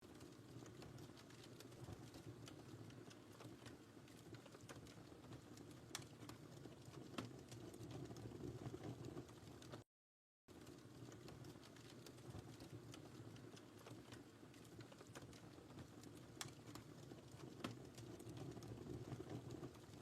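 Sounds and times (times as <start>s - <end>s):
wood fire crackling: 0.0s - 9.8s, 10.5s - 20.0s.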